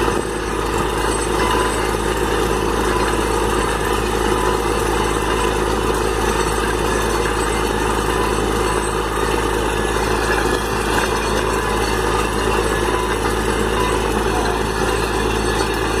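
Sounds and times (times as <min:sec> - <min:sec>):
drilling rig engine running: 0:00.0 - 0:16.0.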